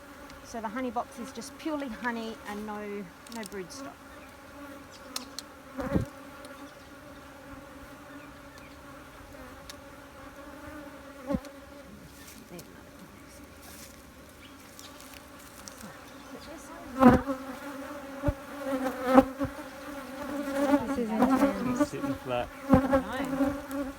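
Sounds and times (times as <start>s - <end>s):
honeybees buzzing: 0.0s - 23.9s.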